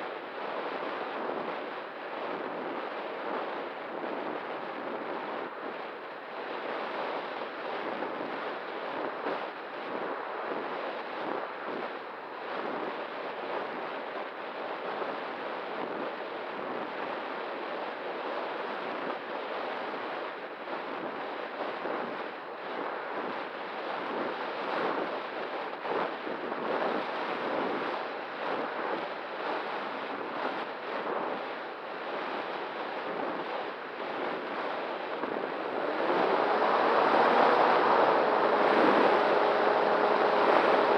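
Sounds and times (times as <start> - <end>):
faint steady hum: 0.0 - 40.9
wind rushing over microphone: 0.3 - 14.2, 18.8 - 40.9.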